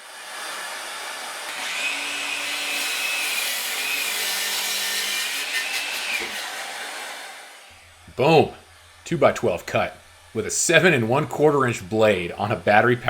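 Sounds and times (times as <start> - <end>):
miter saw cutting wood: 0.0 - 13.0.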